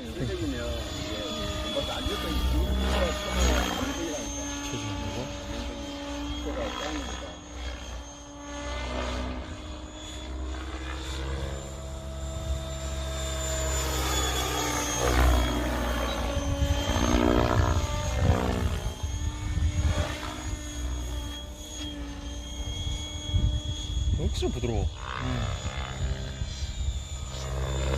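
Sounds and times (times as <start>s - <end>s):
rc helicopter rotor and motor whine: 0.0s - 27.9s.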